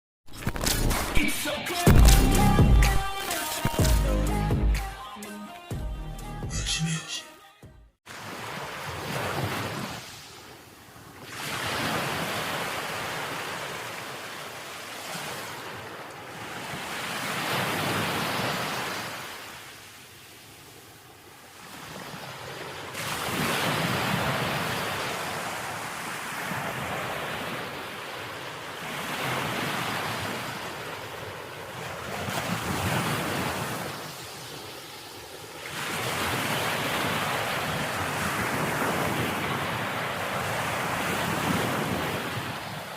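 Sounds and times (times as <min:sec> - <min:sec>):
ocean waves crashing on beach: 0:08.1 - 0:42.9.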